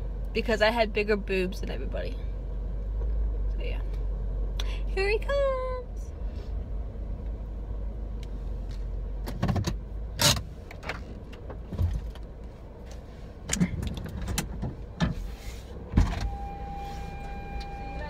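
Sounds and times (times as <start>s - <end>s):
steady low rumble in car: 0.0s - 18.0s.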